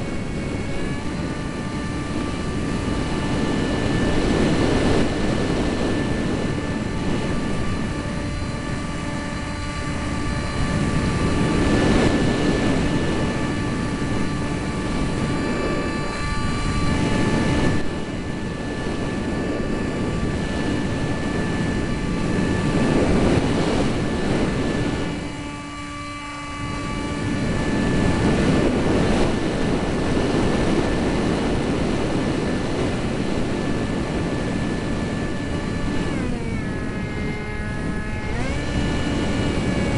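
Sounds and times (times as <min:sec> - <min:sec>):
heavy rumble: 0:00.0 - 0:39.9
jet engines whining: 0:00.0 - 0:39.9
wind on microphone: 0:00.0 - 0:39.9.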